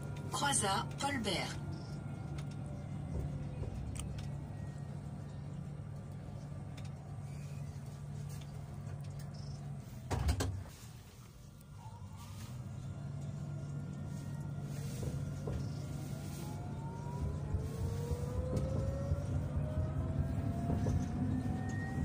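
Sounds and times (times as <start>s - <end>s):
tram humming: 0.0s - 22.0s
wheels rumbling on rails: 0.0s - 22.0s.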